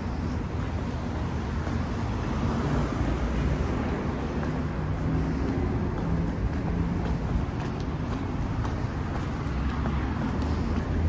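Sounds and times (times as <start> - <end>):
city traffic hum: 0.0 - 11.0.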